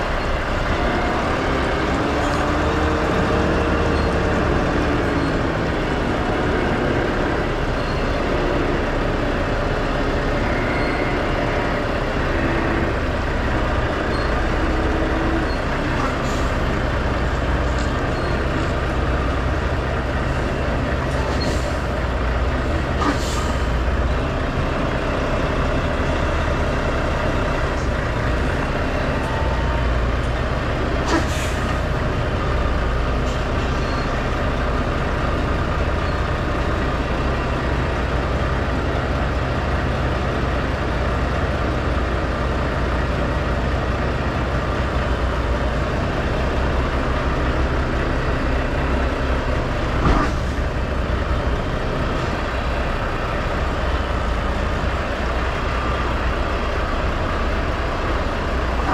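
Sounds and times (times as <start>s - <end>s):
diesel truck engine running: 0.0s - 58.9s.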